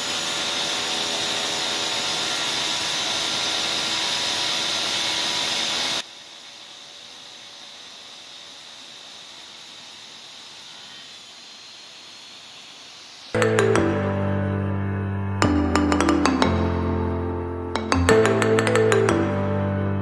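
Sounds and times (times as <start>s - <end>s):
tile saw motor whine: 0.0s - 20.0s.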